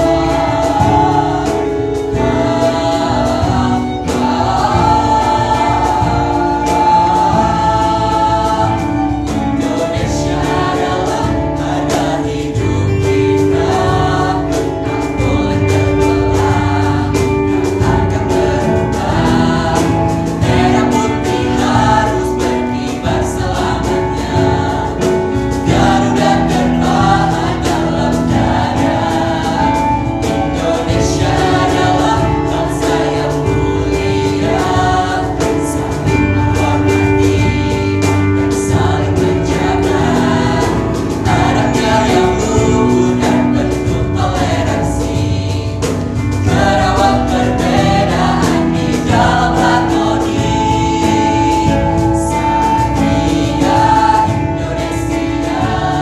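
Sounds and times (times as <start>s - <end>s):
keyboard: 0.0s - 56.0s
mixed group singing in harmony: 0.0s - 56.0s
violin: 0.0s - 56.0s.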